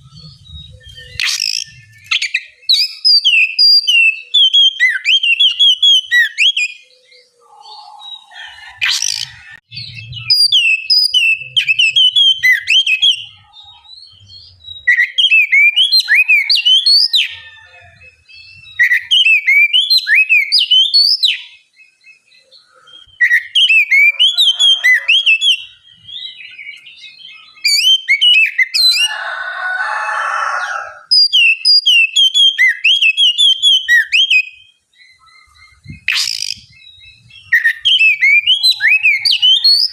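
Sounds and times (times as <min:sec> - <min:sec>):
bird singing whistled notes: 0:00.0 - 0:29.1, 0:31.0 - 0:39.9.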